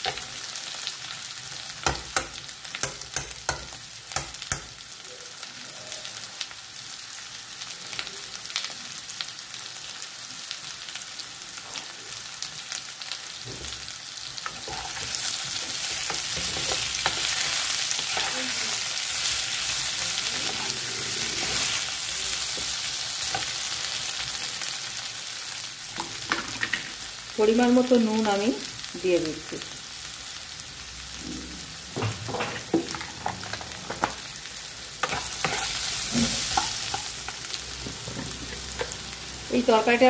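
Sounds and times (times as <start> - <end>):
potatoes sizzling in hot oil: 0.0 - 40.0.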